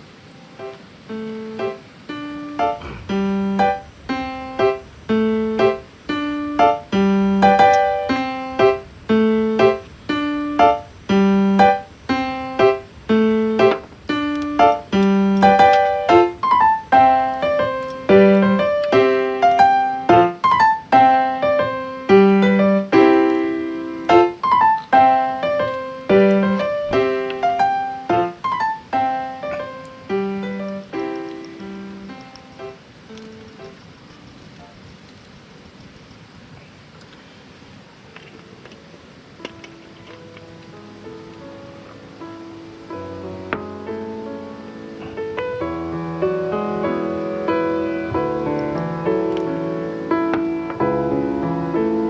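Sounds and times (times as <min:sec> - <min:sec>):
rhythmic piano melody: 0:00.0 - 0:36.4, 0:38.6 - 0:52.0.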